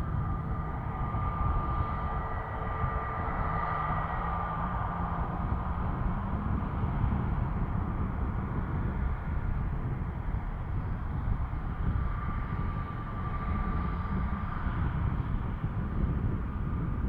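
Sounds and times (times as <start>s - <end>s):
aircraft engine whine: 0.0s - 17.0s.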